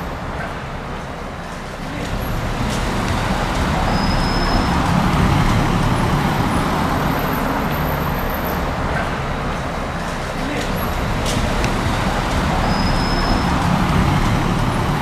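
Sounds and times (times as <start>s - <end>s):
street traffic: 0.0s - 15.0s
vehicle passing: 0.0s - 15.0s.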